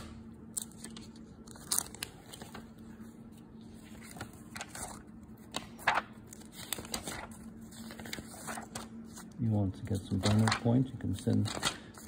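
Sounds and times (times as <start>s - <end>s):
faint steady hum: 0.0s - 12.0s
paper pages rustling: 0.6s - 9.4s, 10.0s - 12.0s.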